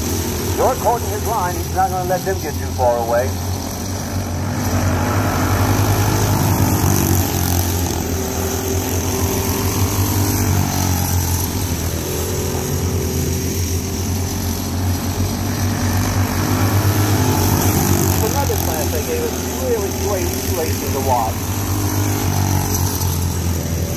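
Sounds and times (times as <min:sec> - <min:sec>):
go-kart engines at full throttle: 0:00.0 - 0:23.9.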